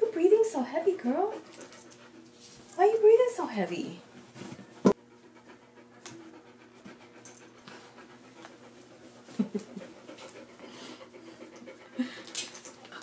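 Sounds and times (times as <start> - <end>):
dog panting: 0.1 - 3.7, 4.9 - 13.0.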